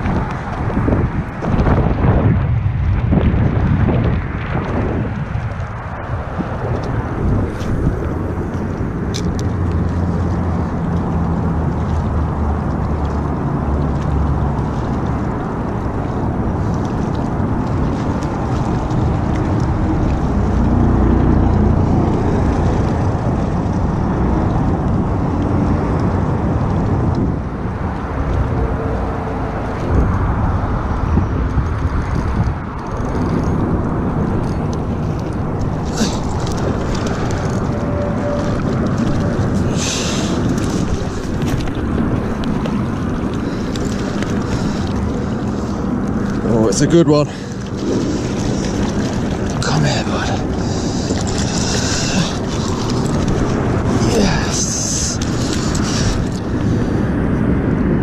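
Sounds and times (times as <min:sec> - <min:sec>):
cars passing with low rumble: 0:00.0 - 0:58.0
wind on microphone: 0:00.0 - 0:58.0.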